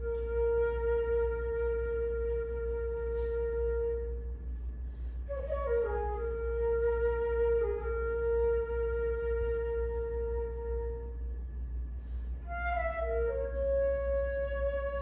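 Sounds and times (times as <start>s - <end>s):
flute playing: 0.0s - 11.4s, 12.4s - 15.0s.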